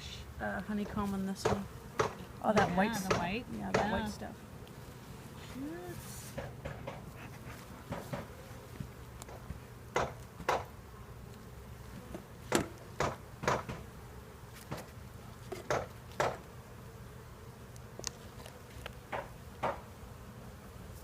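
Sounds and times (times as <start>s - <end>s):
bees buzzing: 0.0s - 21.0s
bees zipping past: 1.0s - 21.0s.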